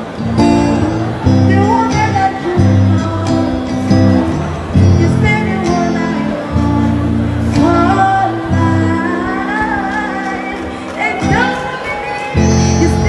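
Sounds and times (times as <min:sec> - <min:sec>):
guitar chords: 0:00.0 - 0:13.0
woman singing: 0:01.4 - 0:04.2, 0:04.8 - 0:13.0.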